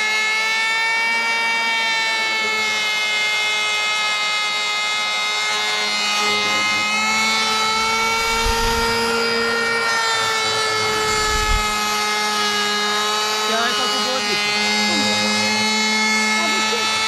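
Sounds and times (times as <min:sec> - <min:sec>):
electric hand planer whining: 0:00.0 - 0:17.0.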